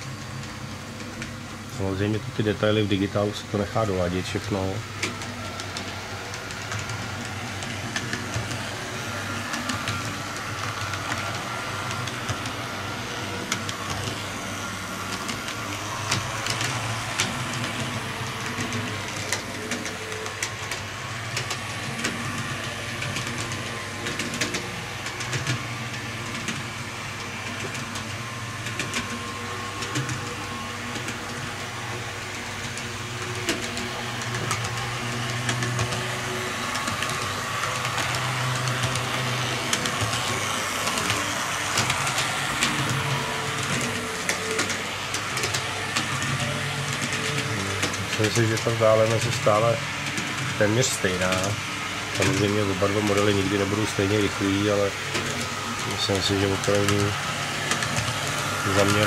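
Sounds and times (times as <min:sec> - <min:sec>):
electric motor hum: 0:00.0 - 0:59.0
model train wheels clicking: 0:00.0 - 0:59.0.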